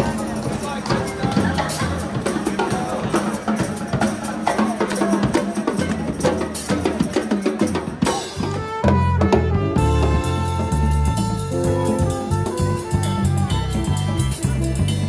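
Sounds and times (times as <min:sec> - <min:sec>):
drum kit busy beat: 0:00.0 - 0:15.0
street band playing upbeat music: 0:00.0 - 0:15.0.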